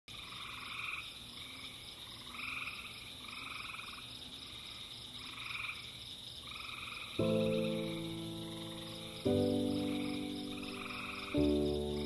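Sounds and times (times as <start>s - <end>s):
frogs trilling: 0.1s - 12.0s.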